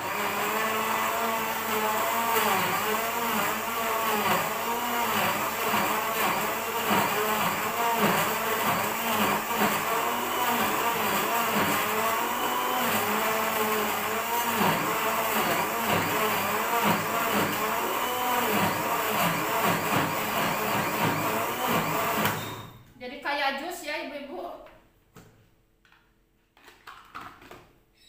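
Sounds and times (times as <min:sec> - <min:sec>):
blender motor grinding: 0:00.0 - 0:22.6.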